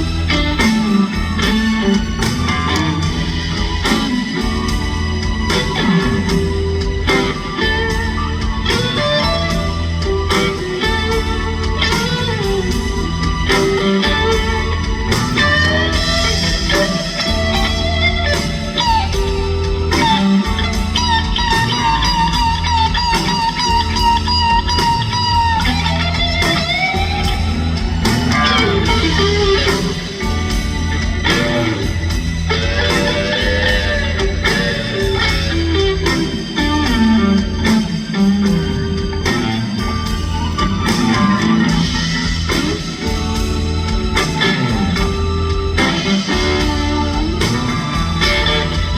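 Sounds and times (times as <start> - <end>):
bass guitar: 0.0 - 48.9
electric guitar sustained notes: 0.0 - 48.9
steady drums: 0.0 - 48.9.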